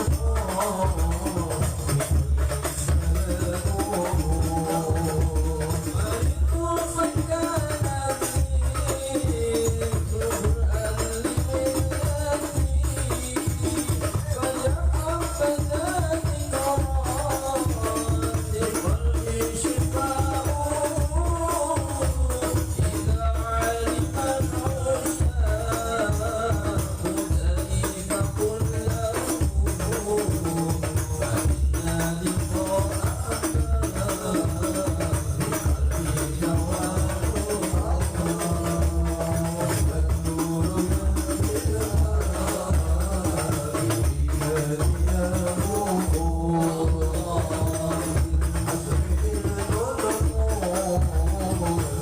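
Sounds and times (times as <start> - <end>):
hand drums: 0.0 - 52.0.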